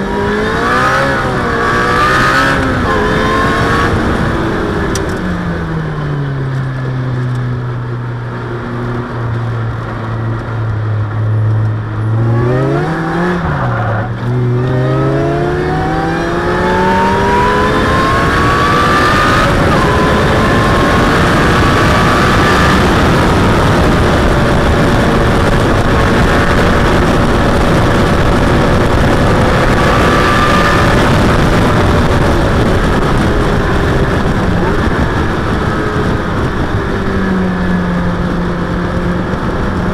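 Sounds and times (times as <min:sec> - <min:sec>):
wind rush: 0:00.0 - 0:06.7, 0:08.2 - 0:39.9
car engine: 0:00.0 - 0:39.9.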